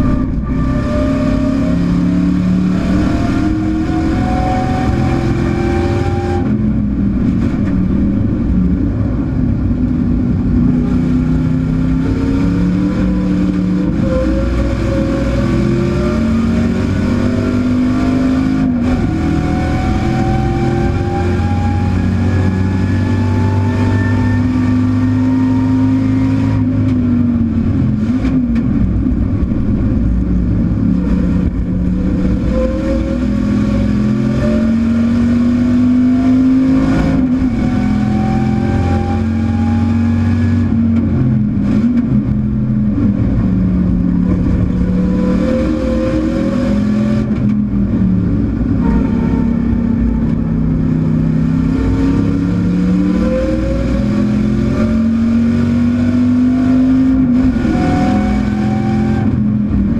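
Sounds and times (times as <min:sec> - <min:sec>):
race car engine at full throttle: 0:00.0 - 0:59.9.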